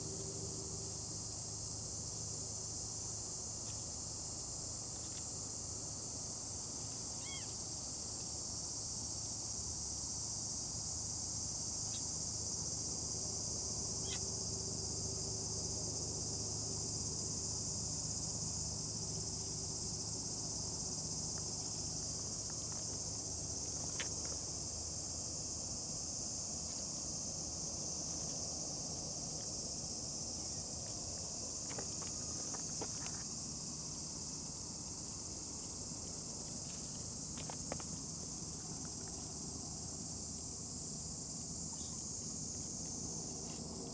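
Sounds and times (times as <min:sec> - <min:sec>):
insect chorus: 0:00.0 - 0:43.9.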